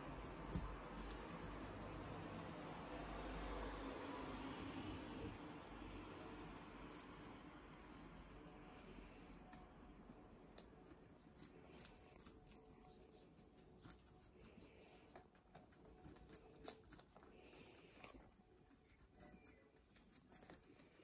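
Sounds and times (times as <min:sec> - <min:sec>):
guinea pigs chewing vegetables: 0:00.0 - 0:21.0.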